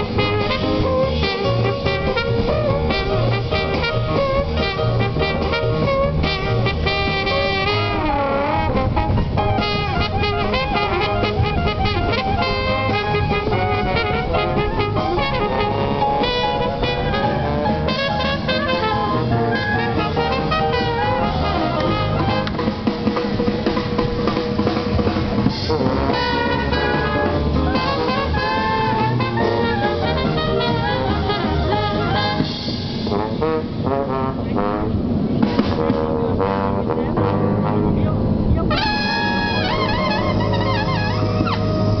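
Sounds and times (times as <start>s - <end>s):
brass band over loudspeaker: 0.0s - 42.0s.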